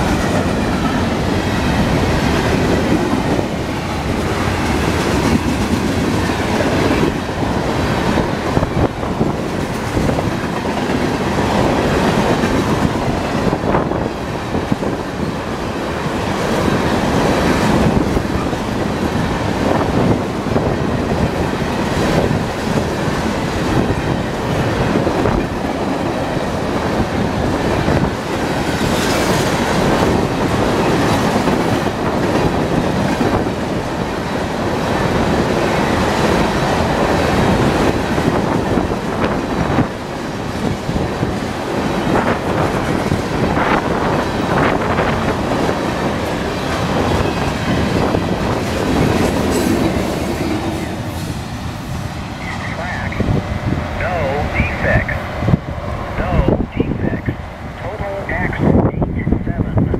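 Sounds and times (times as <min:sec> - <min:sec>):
clickety-clack over rail joints: 0:00.0 - 0:54.2
freight train wheels rumbling: 0:00.0 - 0:59.9.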